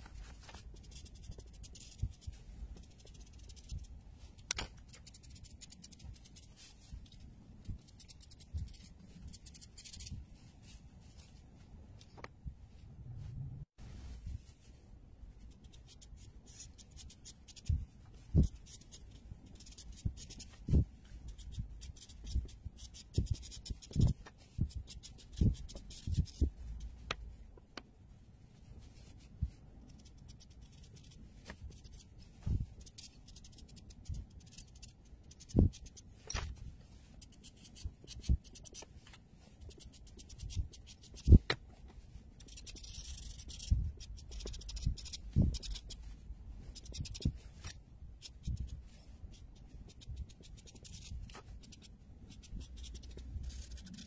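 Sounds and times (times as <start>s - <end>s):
marker scratching on paper: 0.0s - 10.3s, 15.5s - 27.4s, 28.6s - 54.0s.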